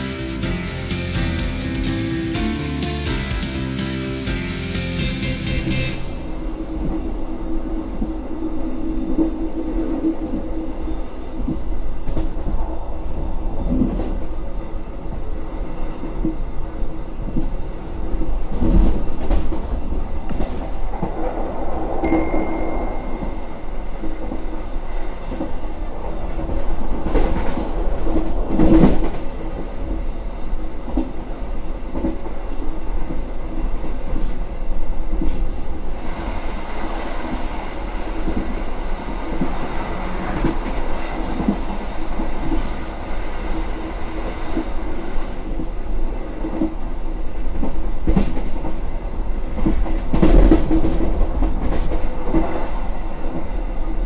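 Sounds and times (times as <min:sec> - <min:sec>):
train rumble and hum: 0:00.0 - 0:54.0
wheels clacking on rails: 0:08.8 - 0:54.0.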